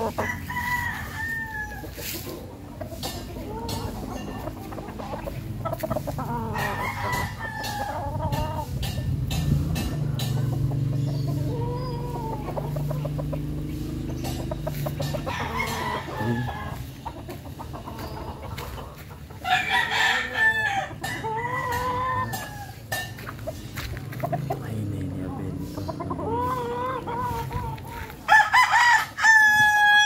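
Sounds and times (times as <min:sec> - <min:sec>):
chickens clucking: 0:00.0 - 0:30.0
roosters crowing: 0:00.0 - 0:30.0.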